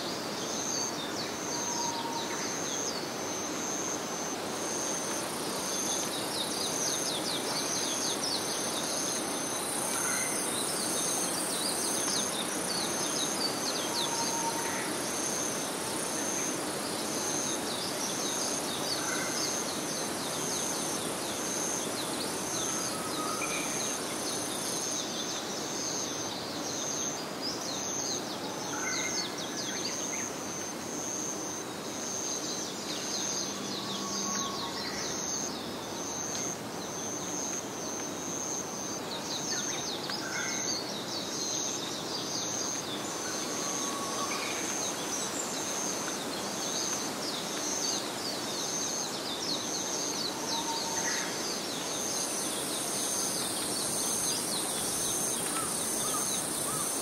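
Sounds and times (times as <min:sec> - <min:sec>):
downward-sweeping insect trills: 0:00.0 - 0:57.0
insect chirp: 0:00.0 - 0:57.0.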